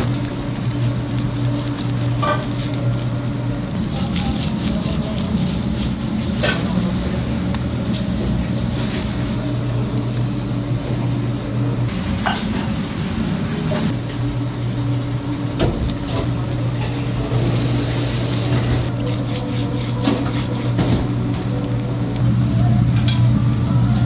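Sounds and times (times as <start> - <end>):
kitchen machinery humming: 0.0 - 24.0.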